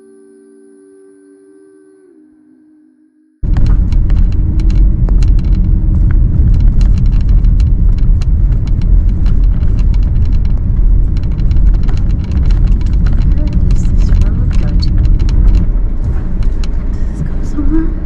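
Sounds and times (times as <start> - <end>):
car engine rumble: 3.4 - 18.0
small rattles and clicks: 3.4 - 18.0.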